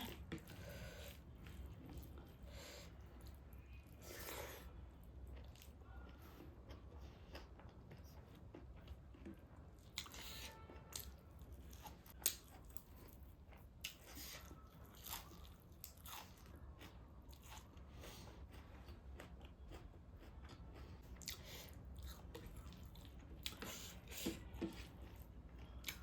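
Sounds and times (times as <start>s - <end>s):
person chewing and crunching food: 0.0s - 26.0s.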